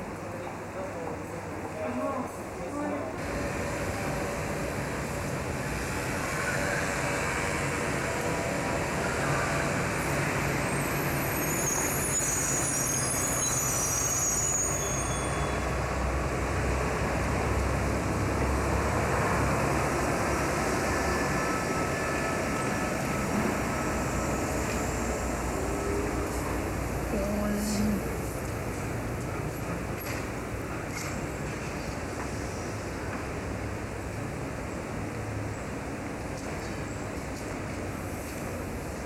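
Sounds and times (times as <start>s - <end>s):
street traffic noise: 3.2s - 39.0s
trolleybus passing: 3.2s - 39.0s.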